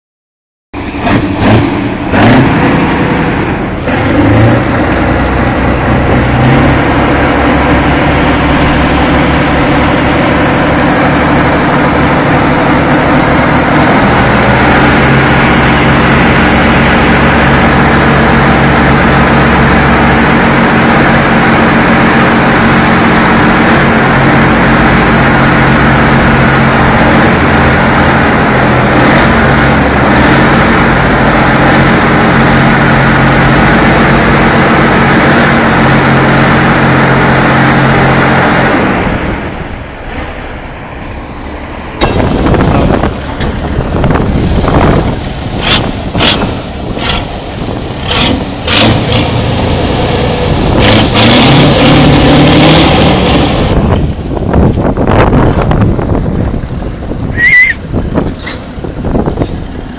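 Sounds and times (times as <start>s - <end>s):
tractor diesel engine under load: 0.7s - 59.9s.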